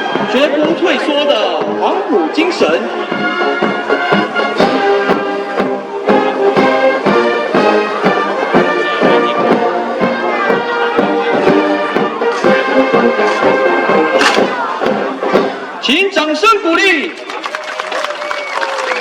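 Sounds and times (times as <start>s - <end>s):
brass band playing a march: 0.0s - 16.8s.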